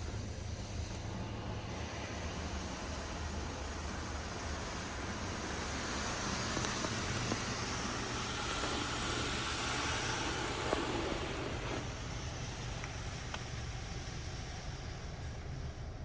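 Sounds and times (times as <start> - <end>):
water spray hissing on car: 0.0 - 16.0.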